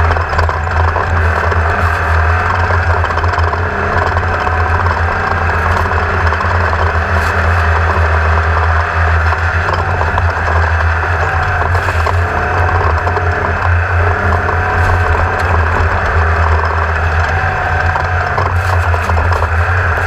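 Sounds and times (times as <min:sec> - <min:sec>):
dense rushing noise: 0:00.0 - 0:20.0
engine running steadily: 0:00.0 - 0:20.0.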